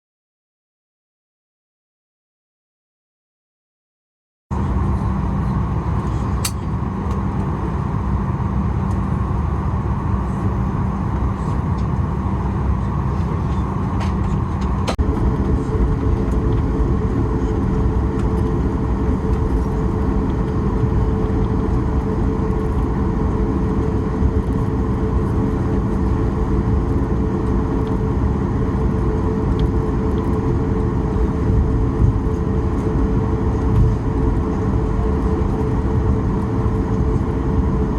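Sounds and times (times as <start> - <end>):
aircraft rumble and hum: 4.5 - 37.9.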